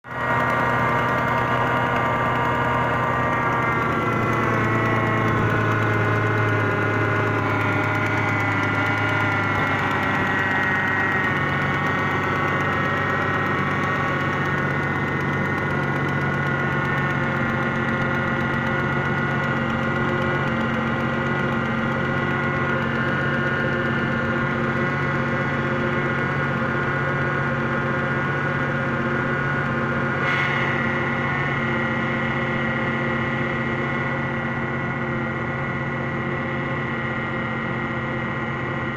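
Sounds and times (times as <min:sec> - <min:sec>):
car engine idling with knocking: 0:00.0 - 0:38.9.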